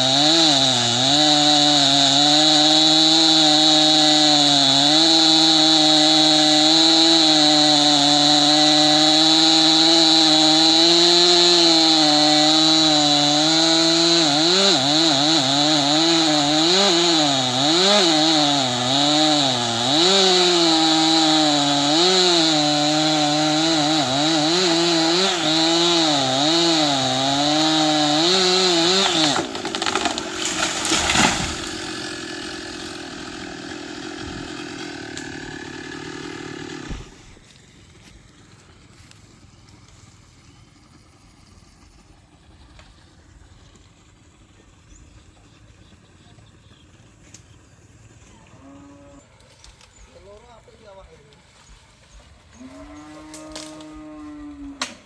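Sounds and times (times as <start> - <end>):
chainsaw cutting wood: 0.0 - 44.2, 49.2 - 55.0.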